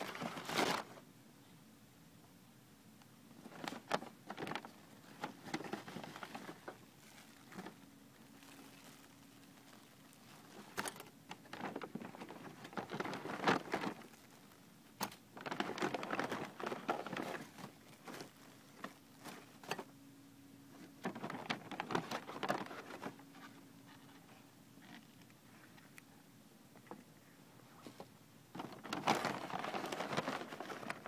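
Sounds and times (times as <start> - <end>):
paper and plastic bags rustling: 0.0 - 1.0, 3.4 - 19.9, 20.8 - 25.0, 27.8 - 31.0
faint steady hum: 0.0 - 31.0.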